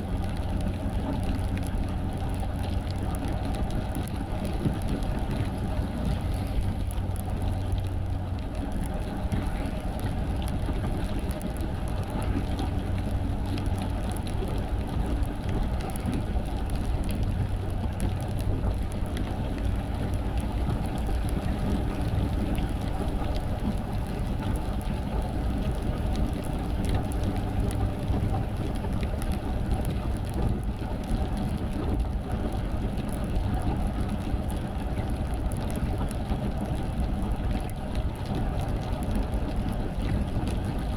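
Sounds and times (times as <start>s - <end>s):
car engine and road rumble: 0.0s - 39.4s
raindrops ticking on car: 0.0s - 40.9s.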